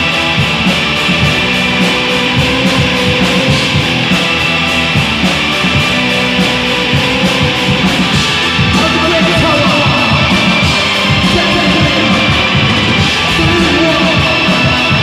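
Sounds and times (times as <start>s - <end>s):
distorted electric guitars: 0.0s - 15.0s
fast drumming: 0.0s - 15.0s.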